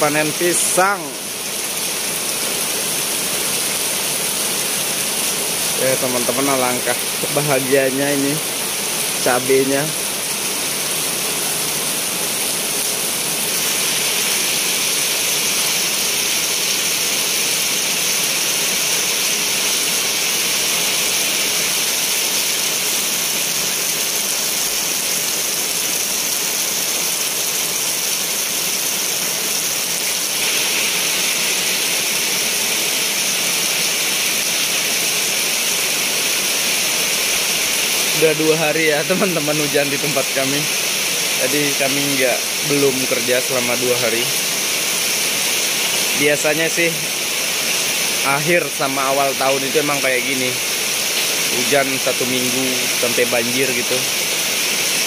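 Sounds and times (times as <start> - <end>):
steady rain on ground and plants: 0.0 - 55.0.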